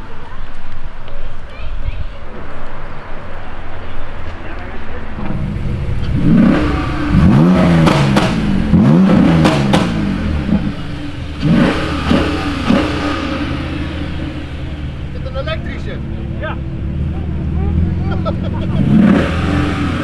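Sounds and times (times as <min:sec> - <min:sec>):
exhaust cracks: 0:00.0 - 0:20.0
car engine revving: 0:03.4 - 0:20.0.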